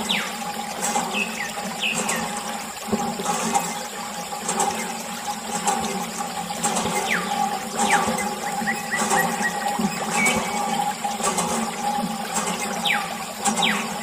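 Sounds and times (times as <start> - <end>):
water splashing from hose: 0.0 - 14.0.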